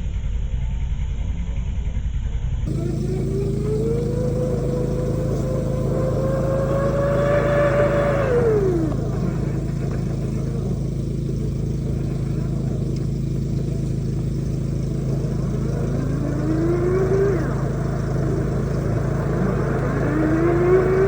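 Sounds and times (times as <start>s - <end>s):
machine drone: 2.7s - 21.0s
whine climbing in pitch: 2.7s - 21.0s.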